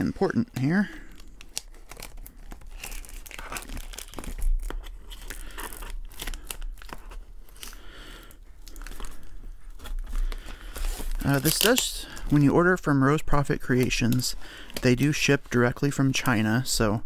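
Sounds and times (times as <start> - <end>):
plastic wrap crinkling and tearing: 0.3 - 16.9.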